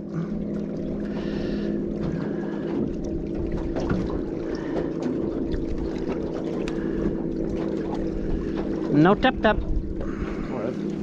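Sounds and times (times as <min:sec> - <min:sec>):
steady low hum: 0:00.0 - 0:11.0
water noise: 0:00.0 - 0:11.0
wind buffeting microphone: 0:02.0 - 0:11.0.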